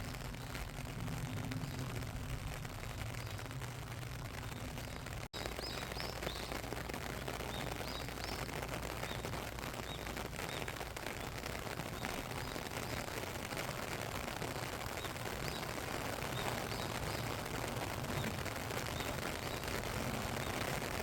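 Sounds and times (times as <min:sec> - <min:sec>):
small birds chirping: 0:00.0 - 0:21.0
steady rain: 0:00.0 - 0:21.0.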